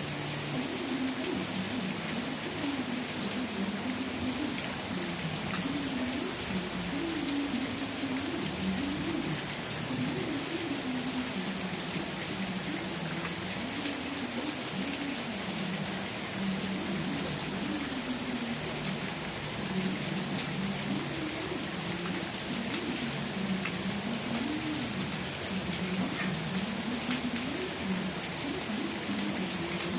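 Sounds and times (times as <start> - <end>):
rain pattering: 0.0 - 29.9.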